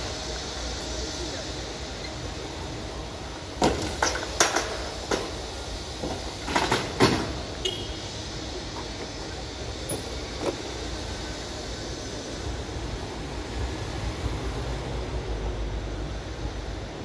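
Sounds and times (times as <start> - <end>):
street ambience hum: 0.0 - 17.0.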